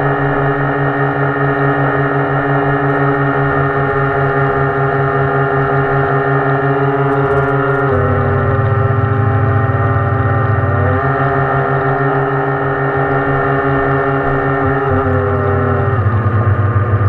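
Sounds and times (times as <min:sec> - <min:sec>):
model boat motor drone: 0:00.0 - 0:17.0.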